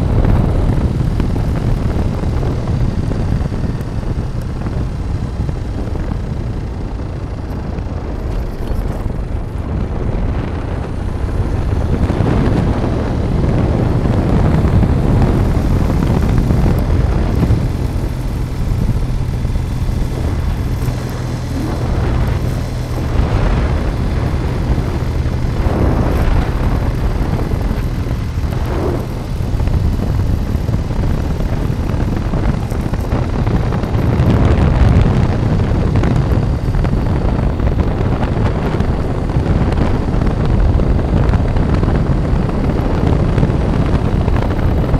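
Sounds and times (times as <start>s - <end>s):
motorcycle engine drone: 0.0s - 44.9s
wind buffeting microphone: 0.0s - 44.9s.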